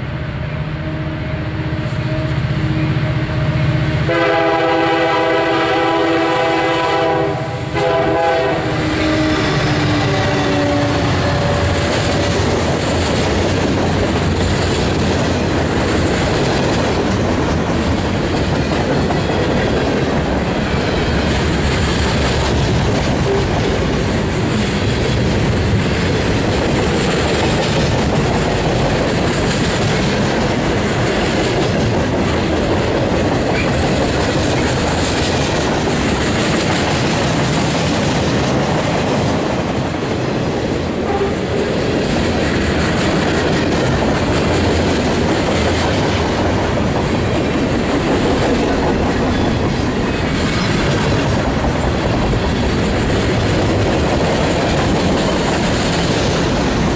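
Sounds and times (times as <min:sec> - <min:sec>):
freight train wheels clattering: 0:03.1 - 0:56.9.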